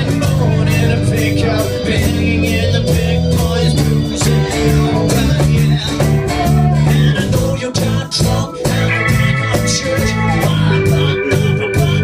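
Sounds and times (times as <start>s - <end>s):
rock and roll band playing: 0.0s - 12.0s.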